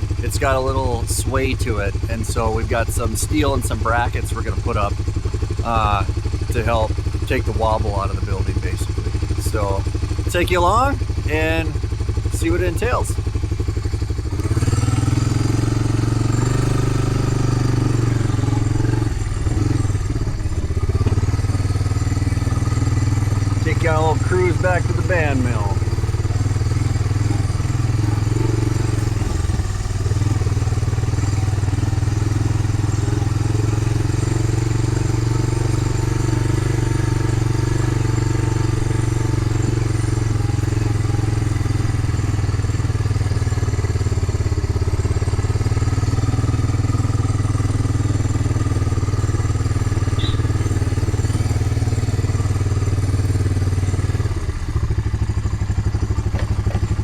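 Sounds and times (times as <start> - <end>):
off-road vehicle engine droning: 0.0 - 57.0.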